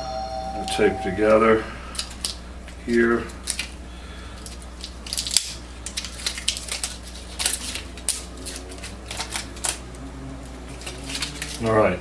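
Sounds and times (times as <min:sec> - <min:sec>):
steady low hum: 0:00.0 - 0:12.0
plastic packs clicking and crackling: 0:00.7 - 0:11.8.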